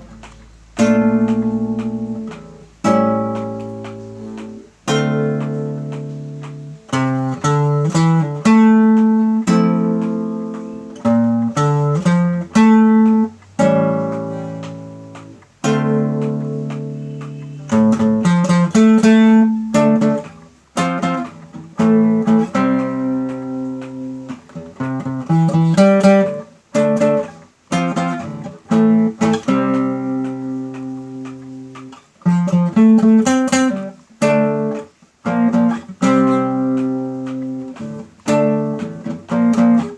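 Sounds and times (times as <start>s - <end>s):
solo guitar plucking chords: 0.0s - 39.9s.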